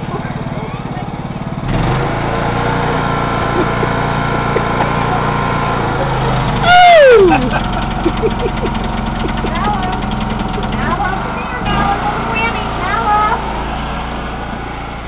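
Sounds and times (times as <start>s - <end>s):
riding lawn mower engine: 0.0s - 15.0s.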